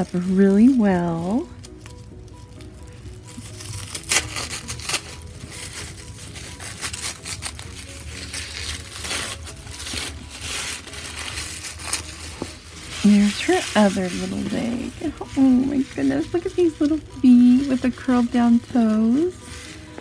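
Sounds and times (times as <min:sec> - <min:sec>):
tissue paper crinkling: 0:00.0 - 0:20.0.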